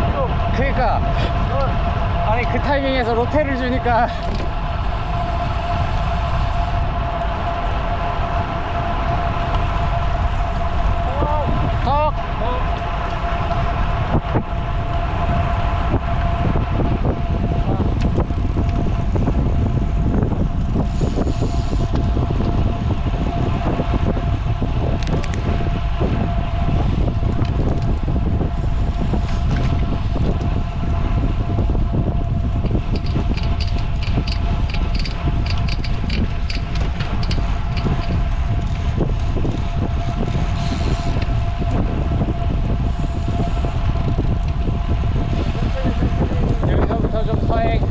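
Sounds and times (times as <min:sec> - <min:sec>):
thin whine: 0:00.0 - 0:47.9
wind buffeting microphone: 0:00.0 - 0:47.9.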